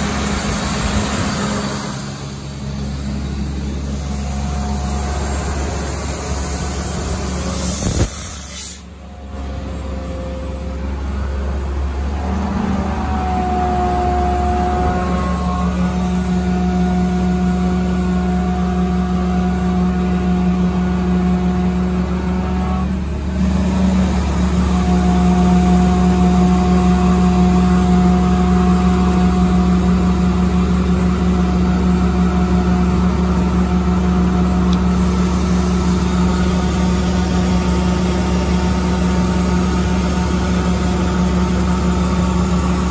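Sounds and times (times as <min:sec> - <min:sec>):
diesel air compressor running: 0:00.0 - 0:42.9.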